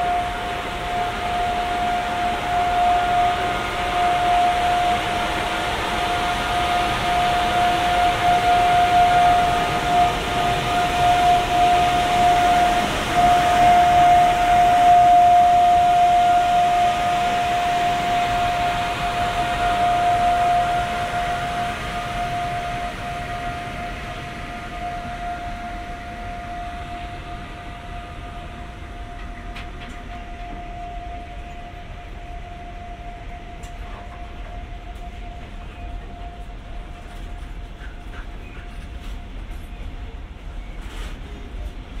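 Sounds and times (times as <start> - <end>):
high-pitched whine: 0.0 - 40.8
freight train wheels rumbling: 0.0 - 42.0.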